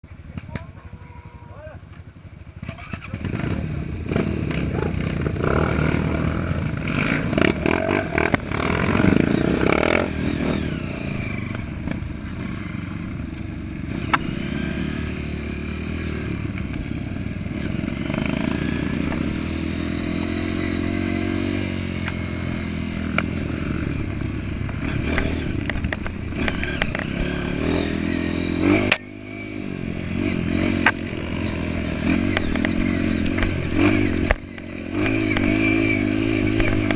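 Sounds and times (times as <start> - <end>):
motorcycle engine revving: 0.1 - 36.9.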